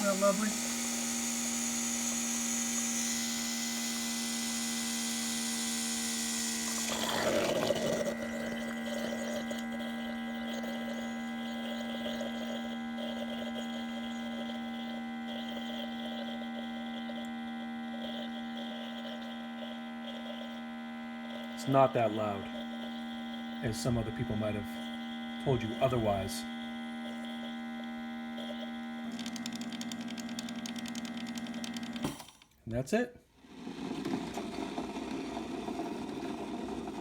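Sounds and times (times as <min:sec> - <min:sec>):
coffee brewer electric hum: 0:00.0 - 0:37.0.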